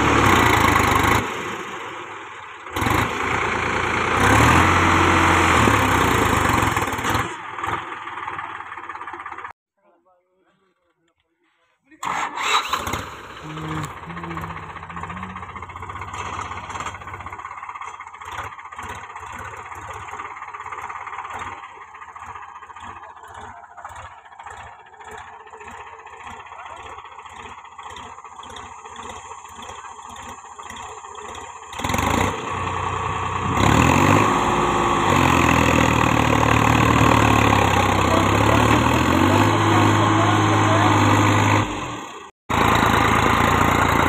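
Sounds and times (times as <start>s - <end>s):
tractor diesel engine revving: 0.0s - 9.5s, 12.0s - 44.0s.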